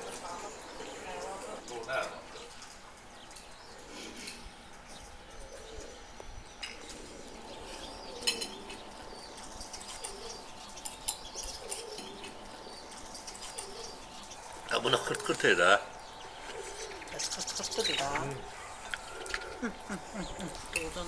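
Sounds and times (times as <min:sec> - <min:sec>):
birds calling softly: 0:00.0 - 0:21.0.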